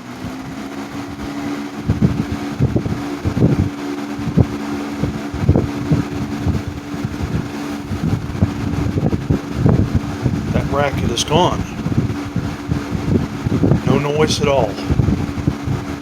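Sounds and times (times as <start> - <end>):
air buffeting microphone: 0.0 - 16.0
fan humming: 0.0 - 16.0.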